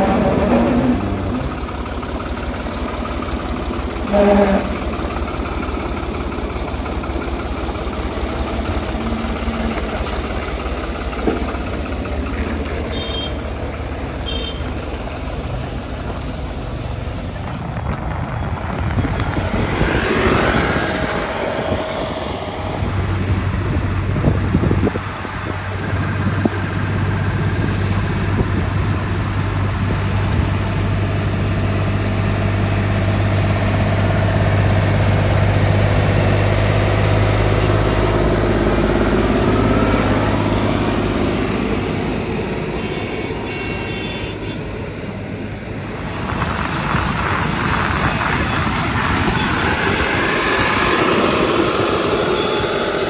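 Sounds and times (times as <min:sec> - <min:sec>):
tractor diesel engine drone: 0:00.0 - 0:53.0.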